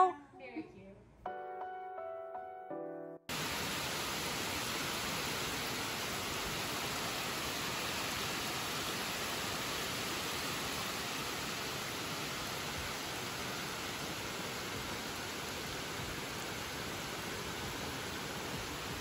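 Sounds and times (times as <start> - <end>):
rain falling on trees: 3.3 - 19.0.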